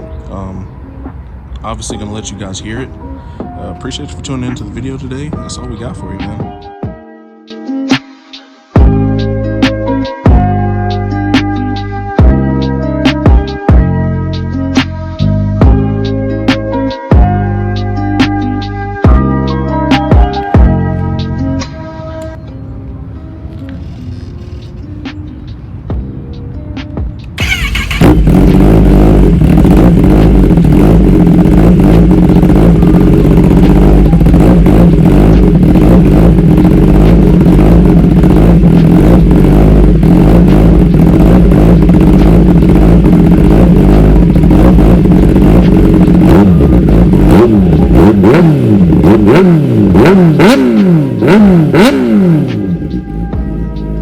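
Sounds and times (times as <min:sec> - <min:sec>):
motorcycle engine idling and revving: 0:00.0 - 0:06.7, 0:08.8 - 0:22.8, 0:23.4 - 0:54.0.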